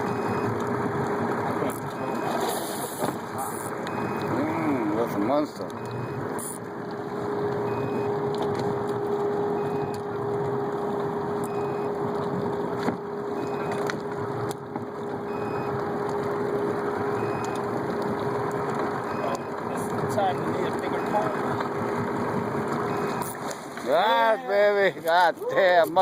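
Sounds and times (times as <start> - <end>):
motor humming: 1.5 - 23.4.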